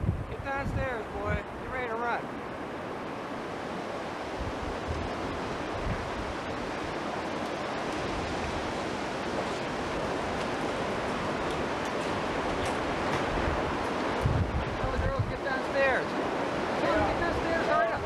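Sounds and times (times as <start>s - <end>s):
tornado winds roaring: 0.0s - 18.0s
wind buffeting microphone: 0.0s - 18.0s.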